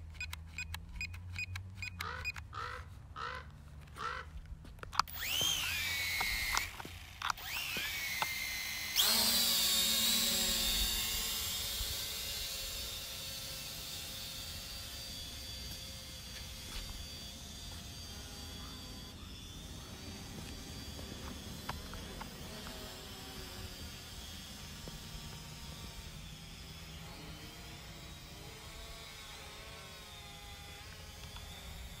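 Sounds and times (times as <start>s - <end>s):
drone propellers whining: 0.0s - 32.0s.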